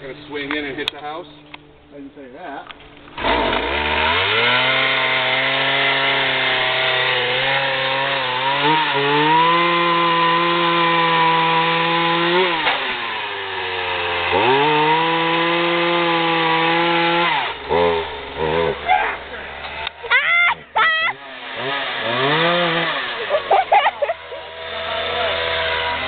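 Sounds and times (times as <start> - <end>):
chainsaw cutting wood: 2.8 - 26.0.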